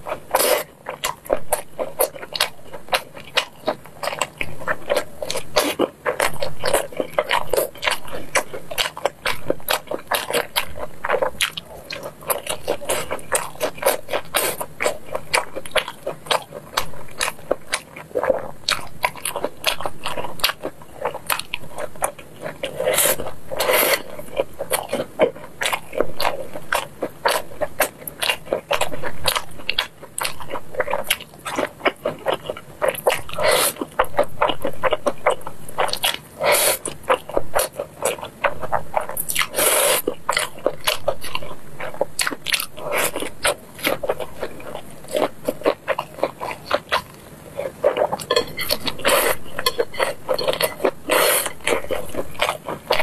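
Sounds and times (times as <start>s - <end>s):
wet chewing and mouth clicks: 0.0s - 53.0s.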